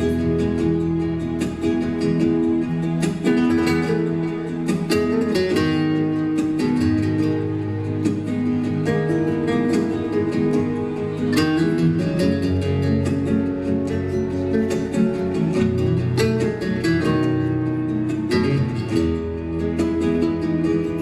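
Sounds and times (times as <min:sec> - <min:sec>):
bass: 0:00.0 - 0:21.0
flamenco guitar playing: 0:00.0 - 0:21.0
percussion: 0:00.0 - 0:21.0.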